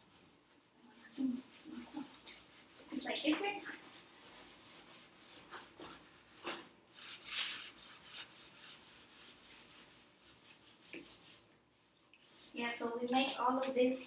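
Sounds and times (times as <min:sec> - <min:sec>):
scrub brush rubbing wood: 0:00.0 - 0:14.0.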